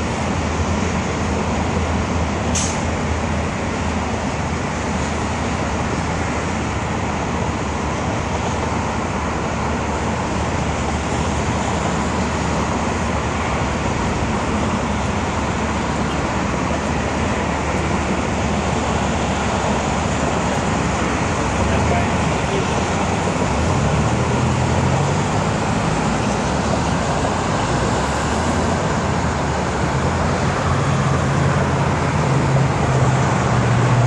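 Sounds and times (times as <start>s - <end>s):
highway traffic noise: 0.0s - 34.0s.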